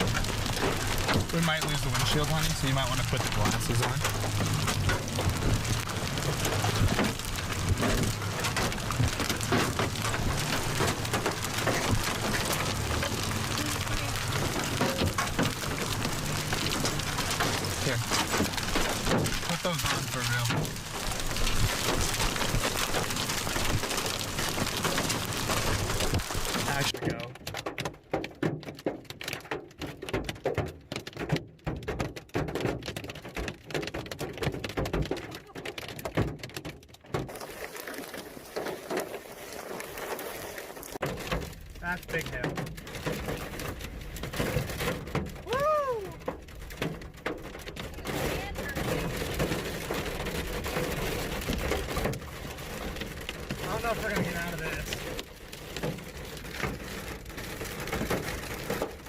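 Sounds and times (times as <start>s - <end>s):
hail pelting vehicle roof: 0.0s - 59.0s.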